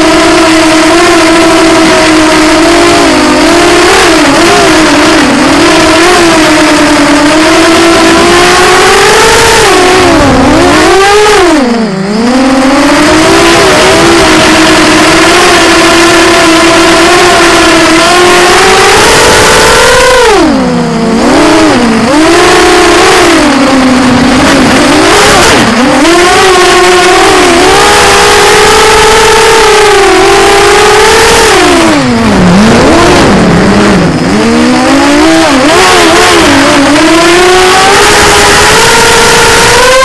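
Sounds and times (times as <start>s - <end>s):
model aircraft motor whine: 0.0s - 40.0s.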